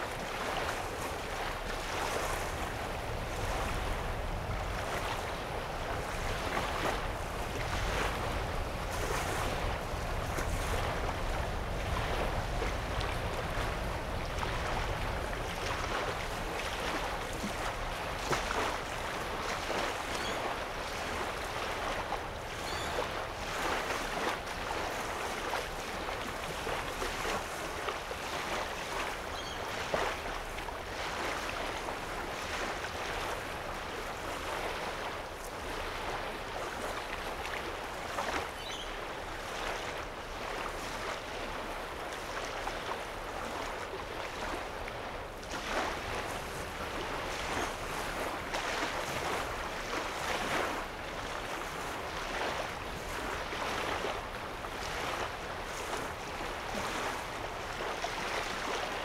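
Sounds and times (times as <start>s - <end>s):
waves lapping on sandy shore: 0.0s - 59.0s
wind rumble on microphone: 0.0s - 59.0s.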